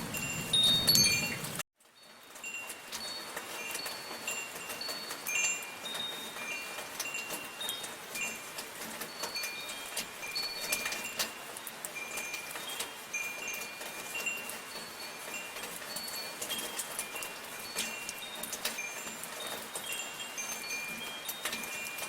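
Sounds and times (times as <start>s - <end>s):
light rain: 0.0s - 22.0s
metal wind chimes ringing: 0.0s - 22.0s.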